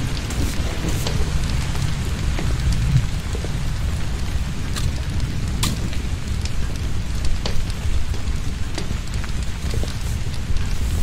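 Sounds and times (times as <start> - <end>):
sharp raindrops striking: 0.0 - 11.0
torrential rain: 0.0 - 11.0.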